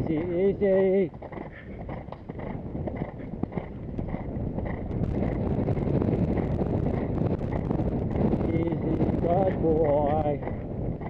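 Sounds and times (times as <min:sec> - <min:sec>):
horse hoofbeats on grass: 0:00.0 - 0:11.0
wind buffeting microphone: 0:00.0 - 0:11.0.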